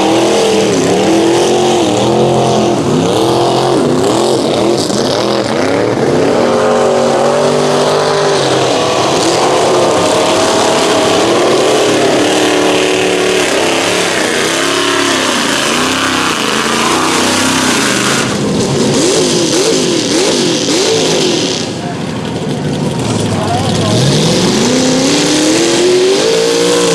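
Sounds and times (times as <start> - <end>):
truck engine at full throttle: 0.0 - 26.9.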